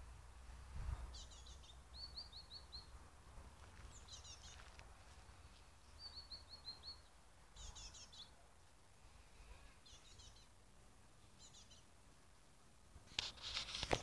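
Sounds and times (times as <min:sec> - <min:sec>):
faint songbird chirping: 0:00.0 - 0:12.6.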